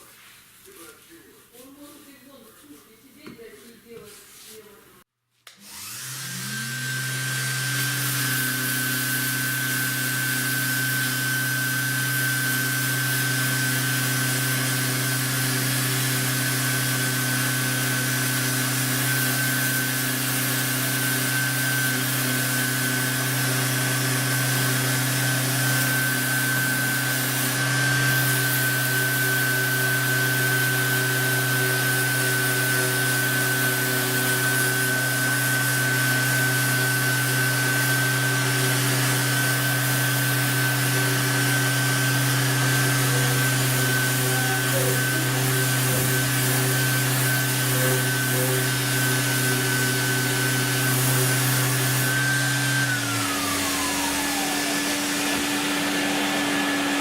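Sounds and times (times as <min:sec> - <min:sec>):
electric power tool whining: 0:05.5 - 0:57.0.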